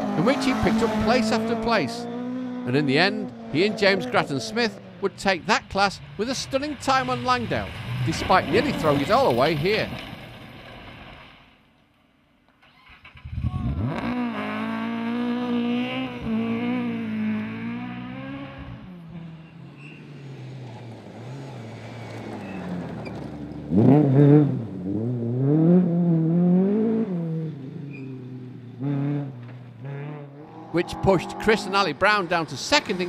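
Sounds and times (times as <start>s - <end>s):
rally car engine revving: 0.0s - 11.2s, 13.2s - 33.0s.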